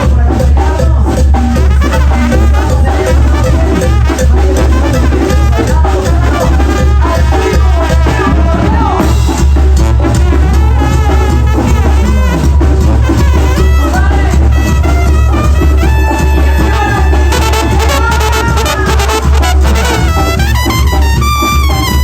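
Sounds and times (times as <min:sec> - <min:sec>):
brass band music with drums: 0:00.0 - 0:22.0.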